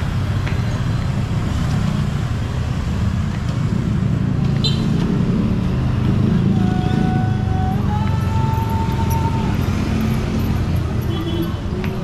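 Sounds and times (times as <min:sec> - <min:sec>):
motorcycle and car engines passing: 0:00.0 - 0:12.0.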